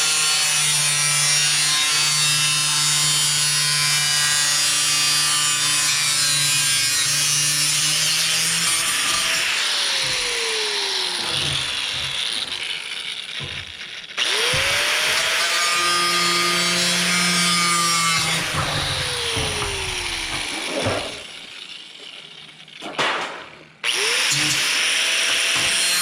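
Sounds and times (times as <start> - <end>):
angle grinder cutting sheet metal: 0.0 - 26.0.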